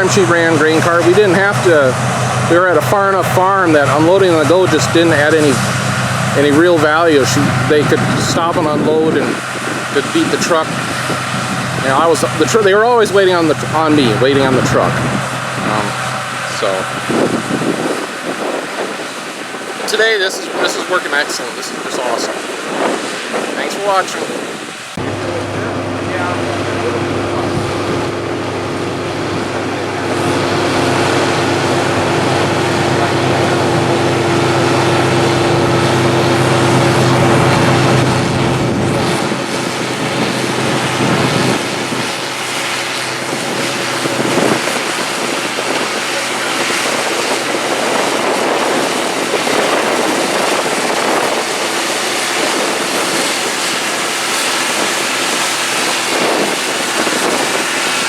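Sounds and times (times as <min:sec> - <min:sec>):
farm machinery engine hum: 0:00.0 - 0:58.0
wind noise on microphone: 0:00.0 - 0:58.0.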